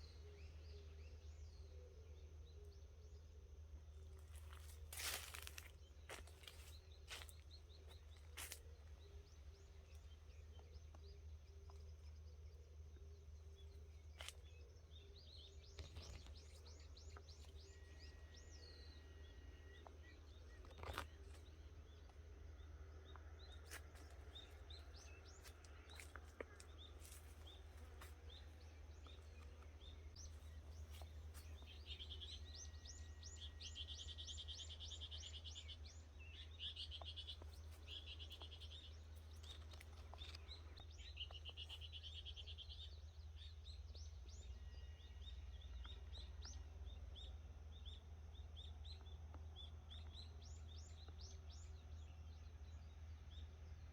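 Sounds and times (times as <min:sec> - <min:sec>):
faint birdsong chirps: 0:00.0 - 0:53.9.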